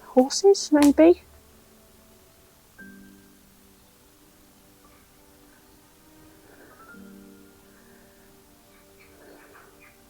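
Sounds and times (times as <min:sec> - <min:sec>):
faint background music: 0:00.0 - 0:10.0.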